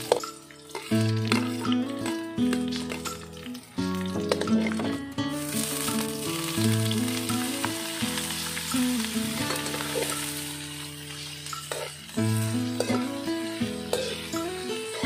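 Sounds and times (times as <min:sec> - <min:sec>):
background music: 0:00.0 - 0:15.0
shellfish sizzling in hot oil: 0:00.0 - 0:15.0.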